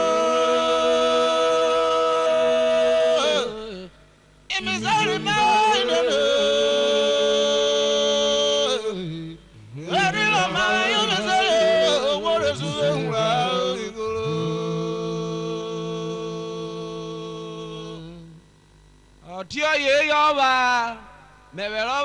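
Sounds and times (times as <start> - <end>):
man singing unaccompanied: 0.0 - 18.5, 19.2 - 22.0.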